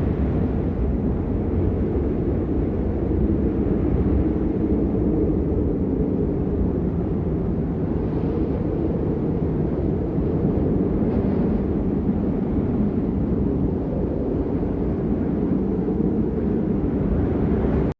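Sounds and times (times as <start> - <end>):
blizzard wind blowing: 0.0 - 17.9.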